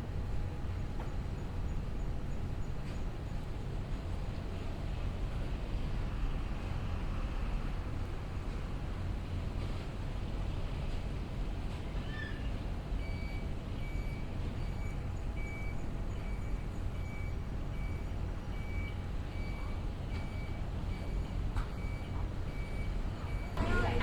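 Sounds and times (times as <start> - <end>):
low rumble of city traffic: 0.0 - 24.0.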